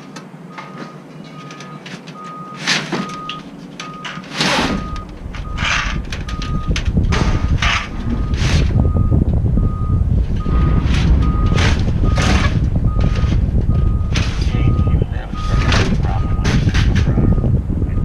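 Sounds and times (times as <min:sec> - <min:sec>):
diesel engine rumble: 0:00.0 - 0:18.0
reversing alarm beeping: 0:00.5 - 0:18.0.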